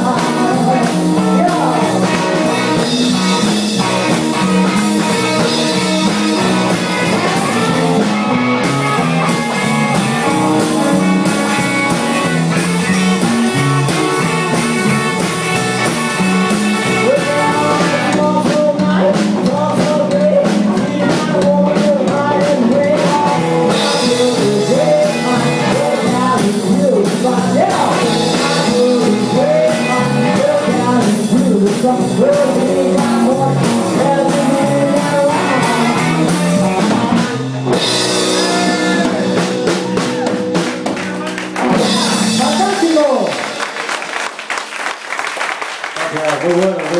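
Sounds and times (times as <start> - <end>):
person singing: 0.0 - 43.2
electric guitar: 0.0 - 44.6
drum kit: 0.0 - 44.7.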